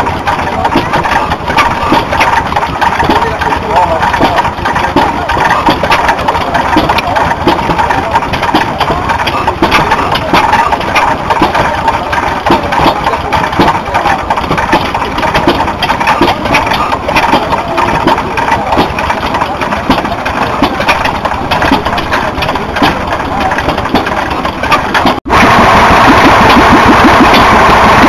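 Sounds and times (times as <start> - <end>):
stationary engine running: 0.0 - 28.0.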